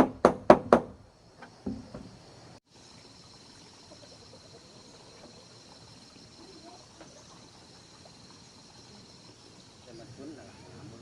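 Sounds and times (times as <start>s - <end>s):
faint insect chorus: 0.0s - 11.0s.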